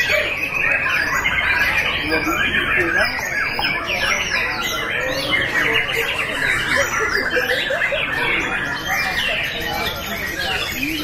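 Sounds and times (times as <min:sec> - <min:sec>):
many birds singing: 0:00.0 - 0:11.0.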